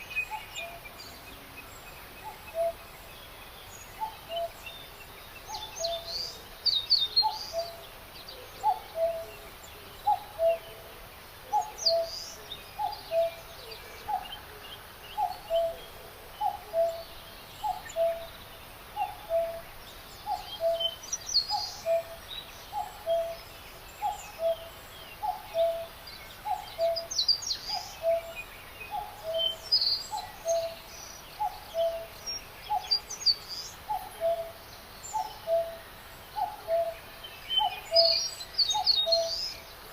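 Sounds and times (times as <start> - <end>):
birds chirping and trilling: 0.0 - 39.9
faint outdoor hiss: 0.0 - 39.9.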